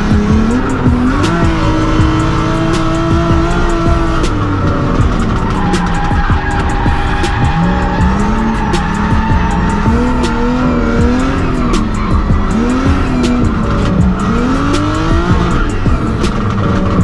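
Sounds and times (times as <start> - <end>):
background music: 0.0 - 17.0
car engine revving: 0.0 - 17.0
tyre squeal: 0.0 - 17.0.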